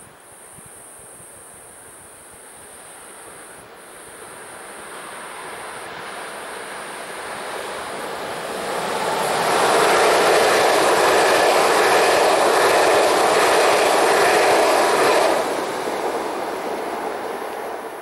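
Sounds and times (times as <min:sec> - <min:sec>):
train wheels rushing on rails: 0:01.9 - 0:18.0.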